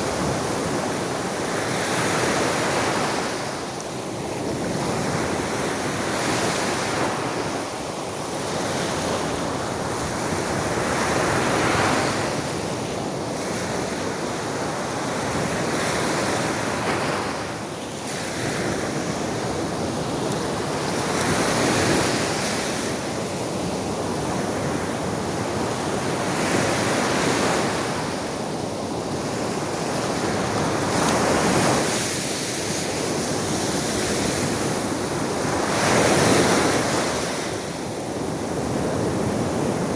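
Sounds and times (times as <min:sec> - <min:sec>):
sea waves breaking on shore: 0:00.0 - 0:39.9
wind gusts on microphone: 0:00.0 - 0:39.9.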